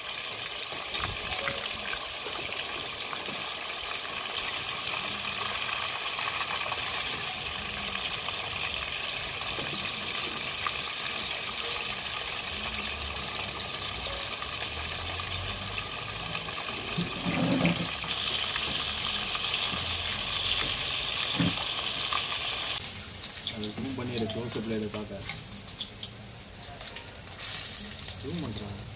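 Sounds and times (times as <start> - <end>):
fish sizzling in hot oil: 0.0 - 28.9.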